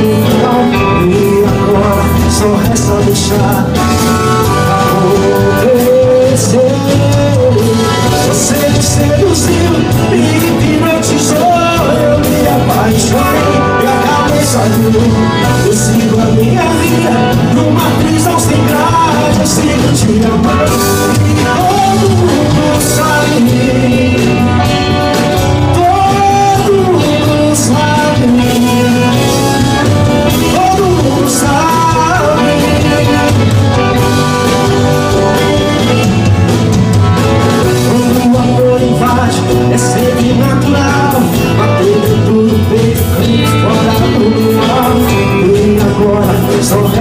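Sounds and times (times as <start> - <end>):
pop song played by a band: 0.0 - 47.0.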